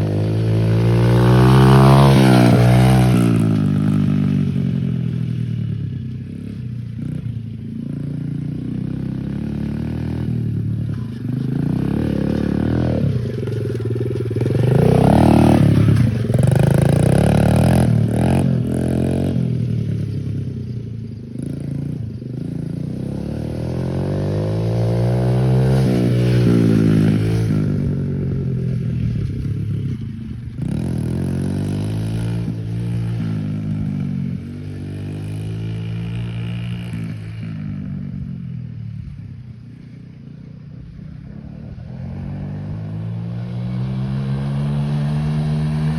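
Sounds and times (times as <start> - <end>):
motorbike engine revving: 0.0 - 5.4, 7.0 - 20.8, 21.4 - 38.2, 40.8 - 45.9.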